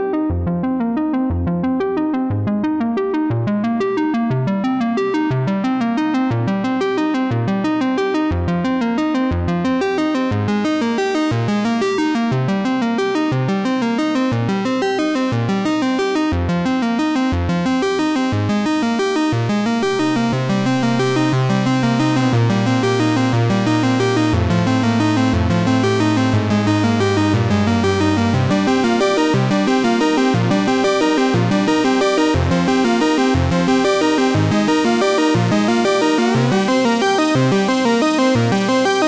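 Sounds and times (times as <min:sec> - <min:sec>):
synthesizer background music: 0:00.0 - 0:39.0.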